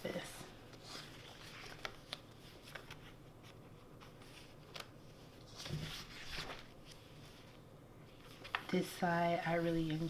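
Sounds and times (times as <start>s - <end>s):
paper pages rustling: 0.7s - 10.0s.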